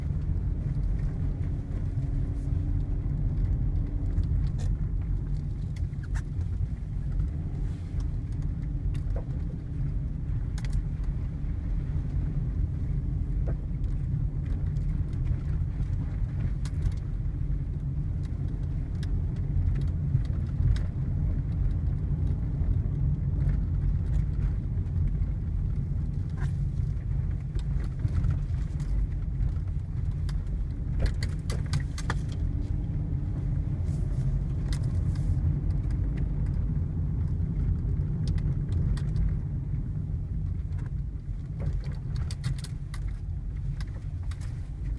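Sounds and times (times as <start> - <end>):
road rumble: 0.0 - 44.9
suspension knocks and rattles: 0.0 - 44.9.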